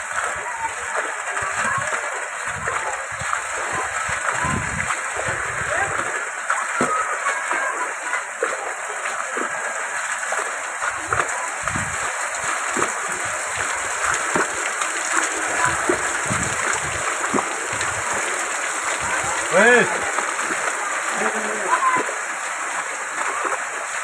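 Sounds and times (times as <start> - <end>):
water hissing and splashing: 0.0 - 24.0
footsteps on wet lane: 0.1 - 22.2.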